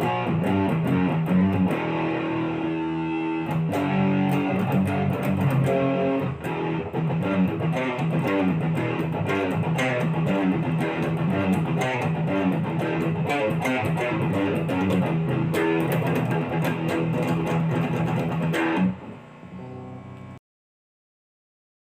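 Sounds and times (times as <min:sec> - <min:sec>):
electric guitar through amplifier: 0:00.0 - 0:20.4.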